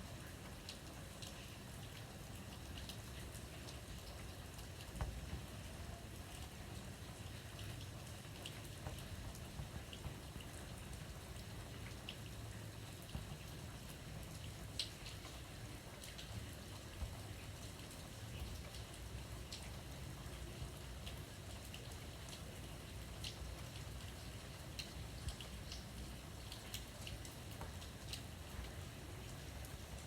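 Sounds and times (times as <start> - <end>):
light rain falling: 0.0 - 30.0
raindrops ticking: 0.1 - 30.0.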